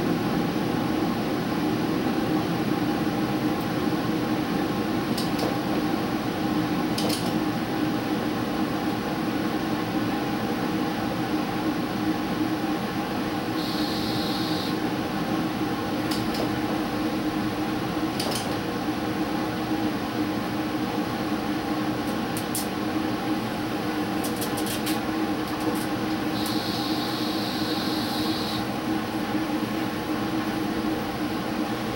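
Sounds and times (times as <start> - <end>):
diesel train drone: 0.0 - 31.9.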